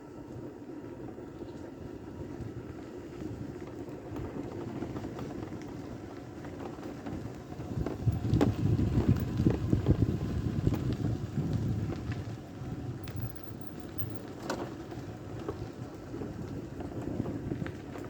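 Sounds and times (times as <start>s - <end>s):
wind buffeting microphone: 1.8s - 14.2s, 14.8s - 18.0s.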